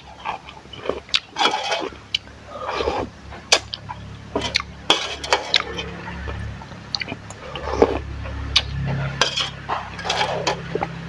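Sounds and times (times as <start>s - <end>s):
metal utensils clinking: 0.0s - 2.0s, 2.6s - 11.0s
low steady hum: 0.0s - 11.0s.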